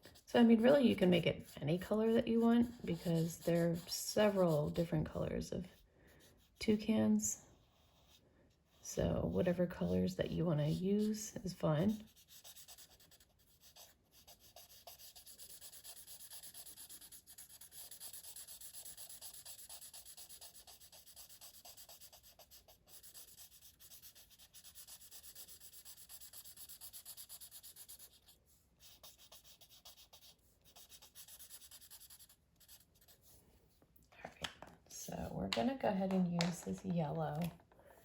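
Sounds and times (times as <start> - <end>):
marker scribbling on paper: 0.0 - 6.8, 7.6 - 33.4.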